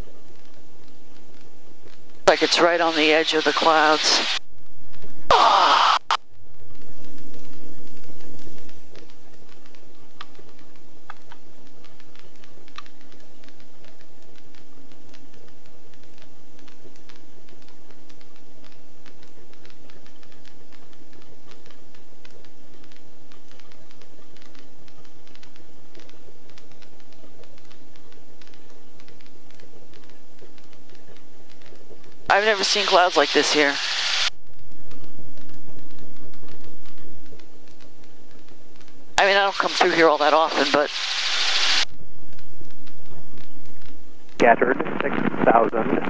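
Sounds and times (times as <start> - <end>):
helicopter cockpit hum: 0.0 - 46.0.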